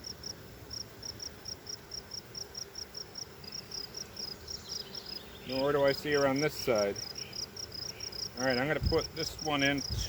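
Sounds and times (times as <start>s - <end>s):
cricket chirping: 0.0s - 10.0s
honeybees humming: 0.0s - 10.0s.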